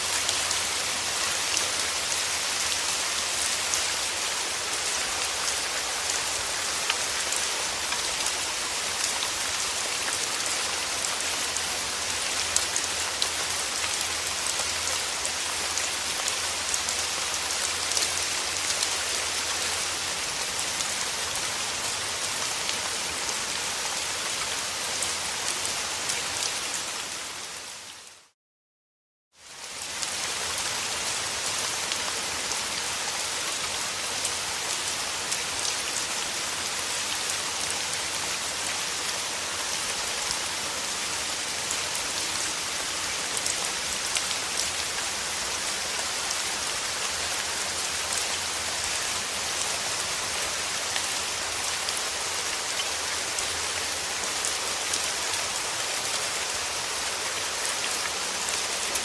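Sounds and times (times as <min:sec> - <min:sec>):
steady rain falling: 0:00.0 - 0:28.4, 0:29.4 - 0:59.0.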